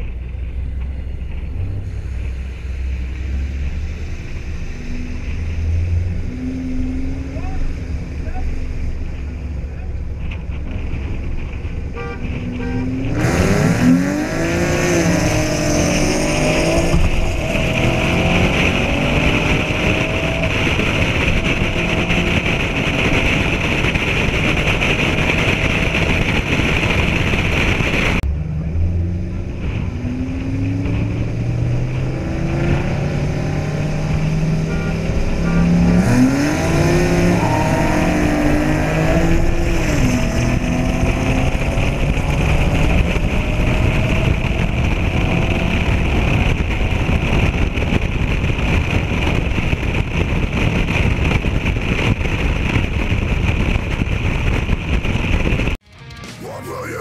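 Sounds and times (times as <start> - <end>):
car engines accelerating hard: 0.0 - 55.8
wind rush on camera: 0.0 - 55.8.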